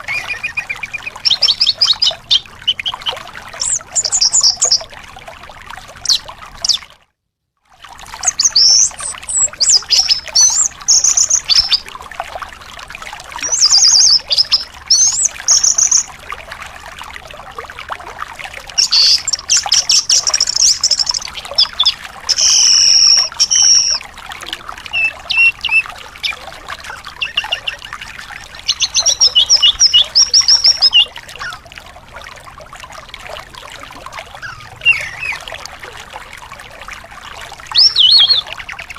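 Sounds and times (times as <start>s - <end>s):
running water trickling: 0.0s - 7.0s, 7.6s - 38.9s.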